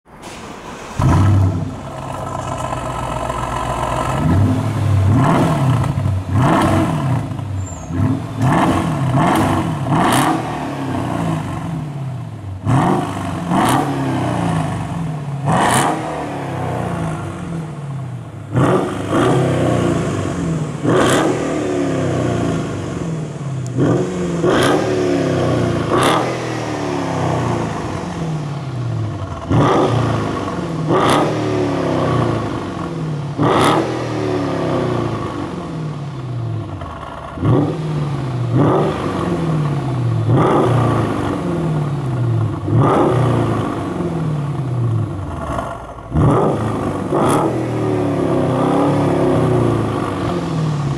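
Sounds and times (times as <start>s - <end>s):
car engine revving: 0.3s - 50.9s.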